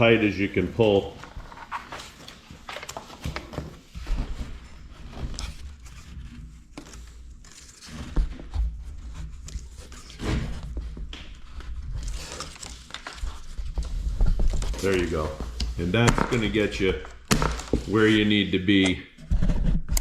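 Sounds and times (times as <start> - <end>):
rustling: 0.6 - 18.4.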